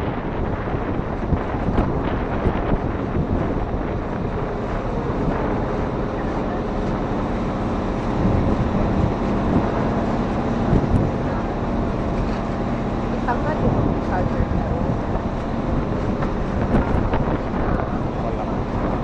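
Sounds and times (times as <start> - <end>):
boat engine drone: 0.0 - 19.0
water rushing past hull: 0.0 - 19.0
wind buffeting microphone: 0.0 - 19.0.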